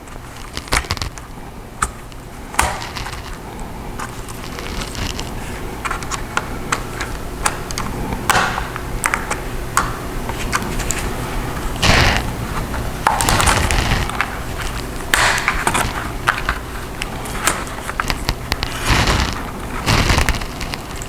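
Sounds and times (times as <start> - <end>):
scraping rustles: 0.0 - 8.8, 10.2 - 21.0.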